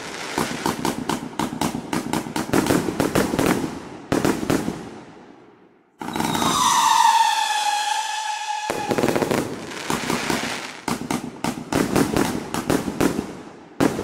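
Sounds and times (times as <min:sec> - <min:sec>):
fireworks popping and crackling: 0:00.0 - 0:05.0, 0:06.0 - 0:14.0
loud fireworks bangs: 0:00.0 - 0:14.0.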